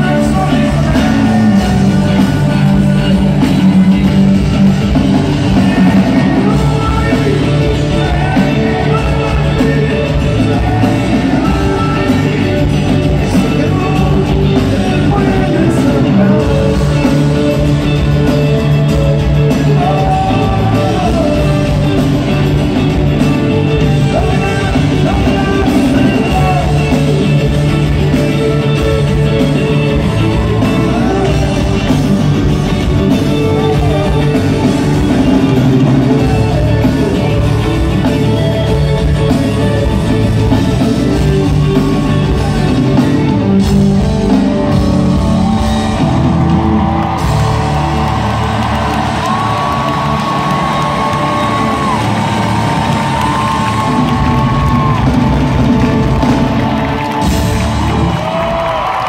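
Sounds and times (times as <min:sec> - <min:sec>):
live rock ballad over loudspeakers: 0:00.0 - 0:59.0.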